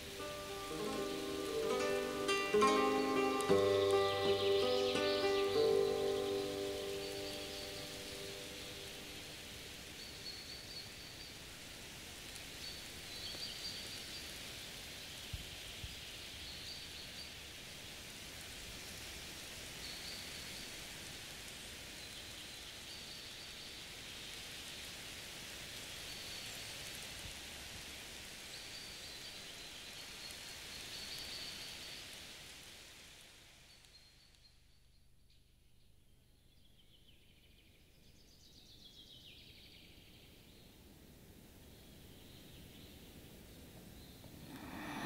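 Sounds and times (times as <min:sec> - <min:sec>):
steady high hiss: 0:00.0 - 0:35.5, 0:38.0 - 0:45.0.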